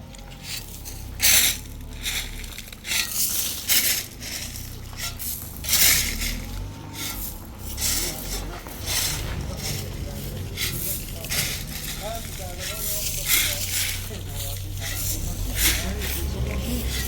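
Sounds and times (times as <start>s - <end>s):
shovels scraping concrete mix: 0.0s - 17.0s
steady low hum: 1.0s - 17.0s.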